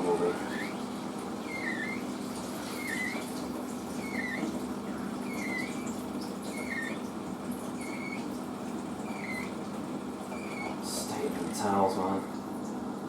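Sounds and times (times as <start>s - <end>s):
washing machine drum squeaking: 0.0s - 11.1s
motor and pump hum: 0.0s - 13.0s.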